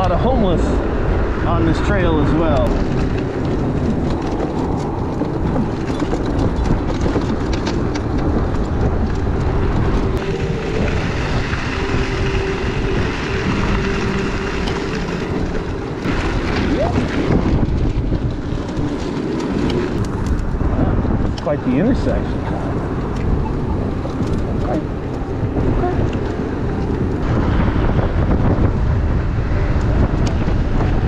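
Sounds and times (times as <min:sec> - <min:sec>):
rolling road noise: 0:00.0 - 0:31.0
wind buffeting microphone: 0:00.0 - 0:31.0.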